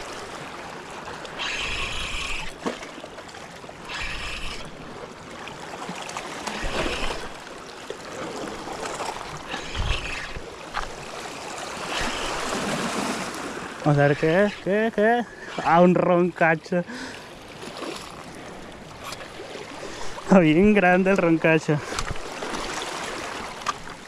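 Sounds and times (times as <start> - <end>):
waves washing over rocks: 0.0 - 16.9, 17.6 - 24.0.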